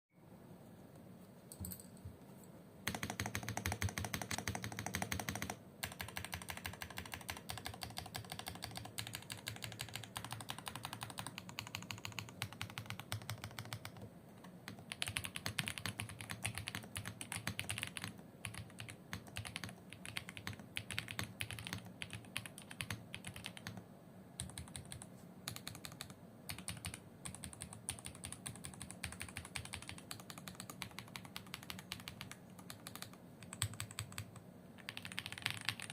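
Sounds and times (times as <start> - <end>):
fast typing on mechanical keyboard: 2.8 - 23.8, 24.4 - 35.9.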